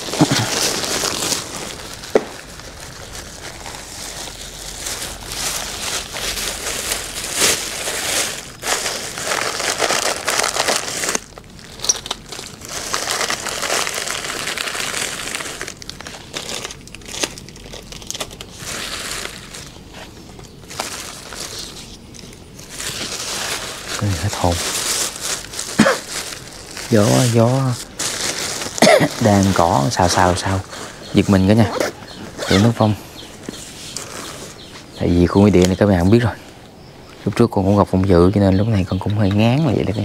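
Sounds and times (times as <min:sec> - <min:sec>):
plastic bags crinkling: 0:00.0 - 0:35.7.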